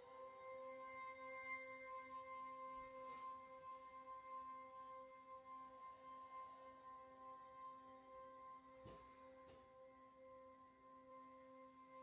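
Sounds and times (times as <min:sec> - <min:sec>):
slow bell-like drone music: 0:00.0 - 0:12.0.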